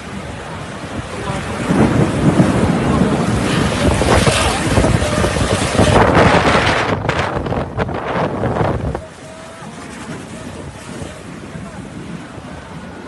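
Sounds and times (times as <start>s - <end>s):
heavy rain: 0.0s - 13.0s
wind gusts buffeting microphone: 0.0s - 13.0s.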